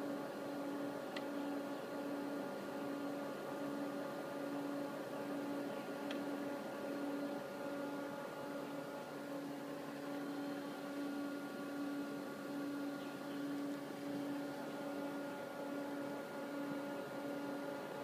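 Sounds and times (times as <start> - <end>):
equipment hum and fan noise: 0.0 - 18.0.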